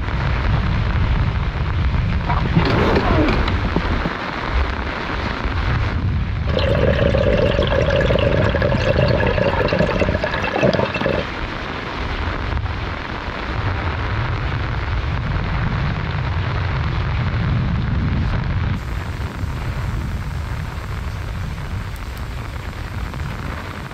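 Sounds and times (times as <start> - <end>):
wind: 0.0 - 7.5, 11.2 - 23.9
heavy rain: 0.0 - 23.9.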